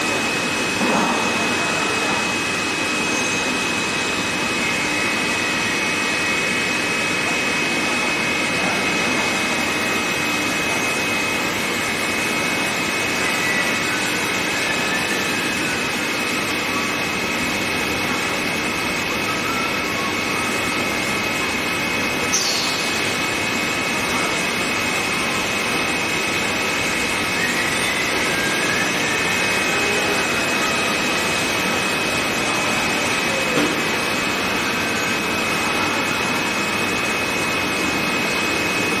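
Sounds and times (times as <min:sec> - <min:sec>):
lathes running with high whine: 0:00.0 - 0:39.0.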